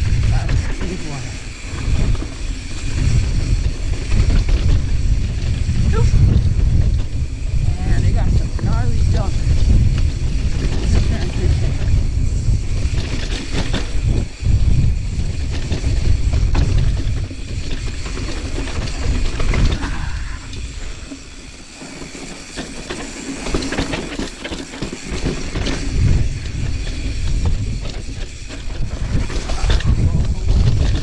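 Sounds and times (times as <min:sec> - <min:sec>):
bike tyre noise on dirt: 0:00.0 - 0:31.0
wind rumbling on microphone: 0:00.0 - 0:31.0.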